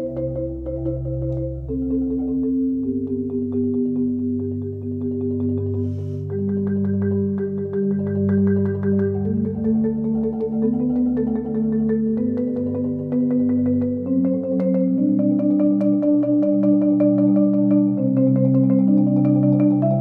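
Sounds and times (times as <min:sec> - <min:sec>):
repeated struck notes: 0:00.0 - 0:20.0.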